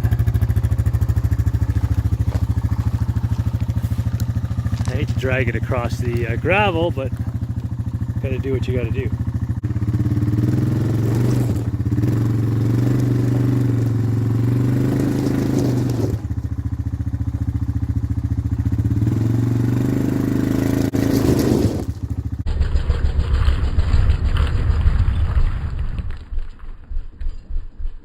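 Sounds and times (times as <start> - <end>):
snowmobile dragged across gravel: 0.0 - 17.7, 19.2 - 26.9
small vehicle engine running: 0.0 - 27.9.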